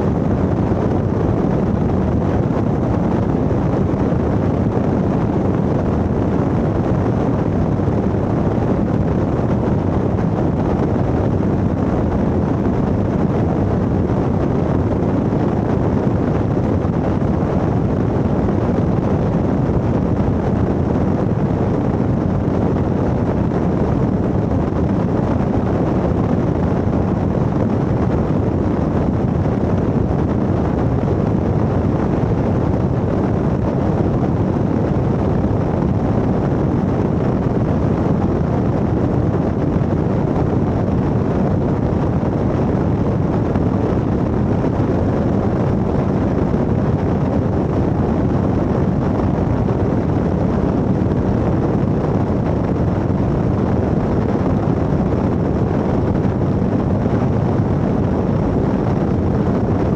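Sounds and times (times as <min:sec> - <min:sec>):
wind noise: 0:00.0 - 0:59.9.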